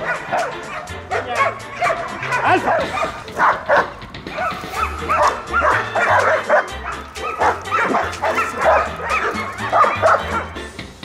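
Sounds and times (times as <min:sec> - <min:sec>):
dog barking: 0:00.0 - 0:10.7
background music with bass line: 0:00.0 - 0:11.0.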